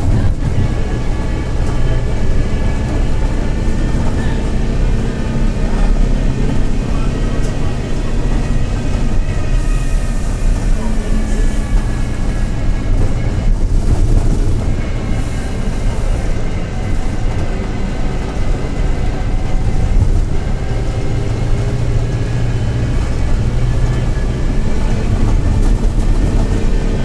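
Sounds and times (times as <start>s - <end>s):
bus engine and running gear rumble: 0.0s - 27.0s.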